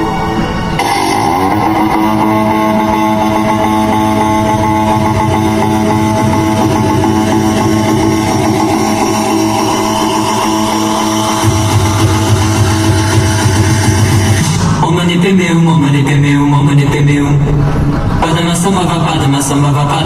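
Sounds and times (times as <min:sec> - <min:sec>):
loud music with long held notes: 0:00.0 - 0:20.0.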